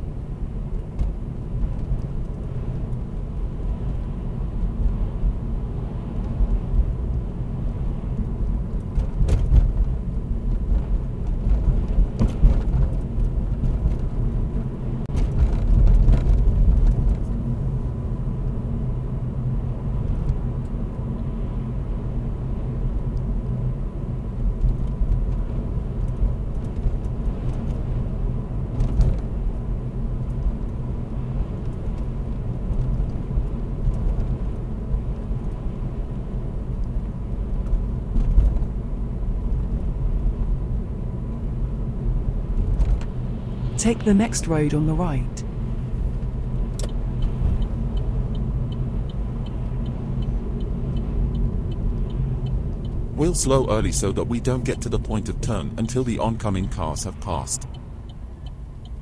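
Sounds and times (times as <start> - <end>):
car cabin engine and tyre rumble: 0.0 - 59.0.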